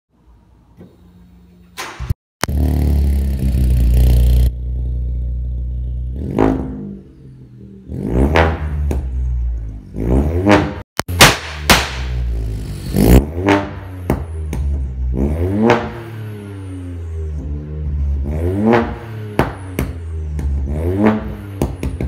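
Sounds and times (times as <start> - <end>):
car engine revving: 2.4 - 11.3, 11.9 - 22.0.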